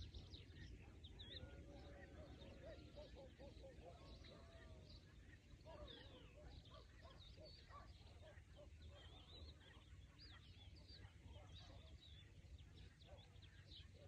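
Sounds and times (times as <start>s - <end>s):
chorus of birds chirping: 0.0s - 14.0s.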